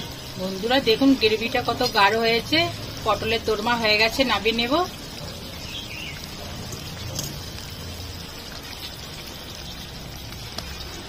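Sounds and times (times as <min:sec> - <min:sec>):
thick gravy bubbling in a wok: 0:00.0 - 0:11.0.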